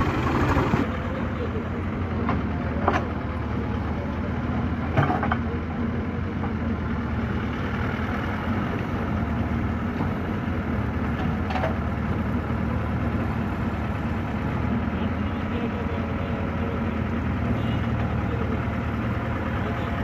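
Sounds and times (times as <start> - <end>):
tractor diesel engine idling: 0.0 - 20.0.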